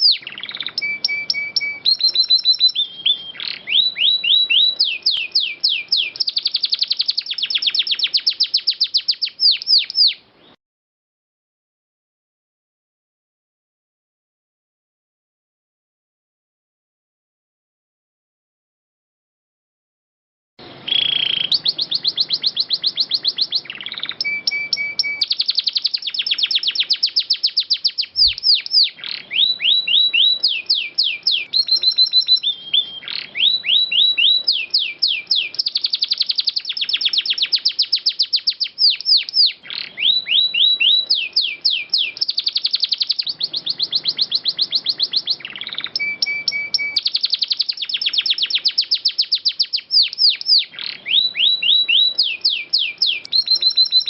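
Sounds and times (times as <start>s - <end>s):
canary singing trills: 0.0s - 10.6s, 20.6s - 54.0s.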